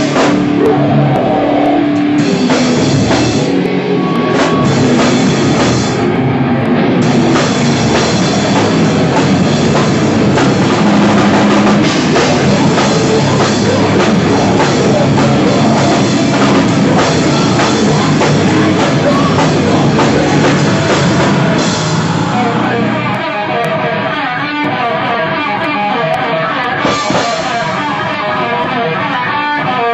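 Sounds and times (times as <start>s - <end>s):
rock band playing loudly: 0.0s - 29.9s.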